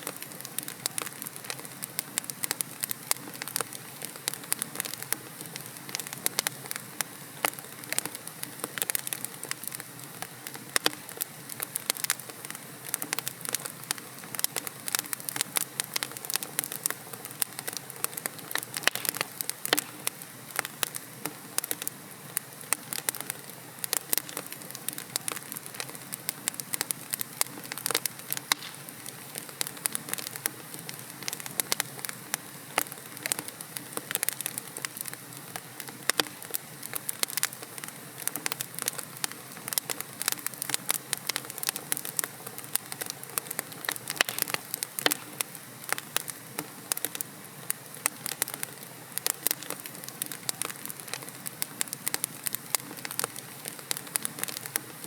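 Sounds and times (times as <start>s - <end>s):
logs crackling in a fireplace: 0.0s - 55.0s.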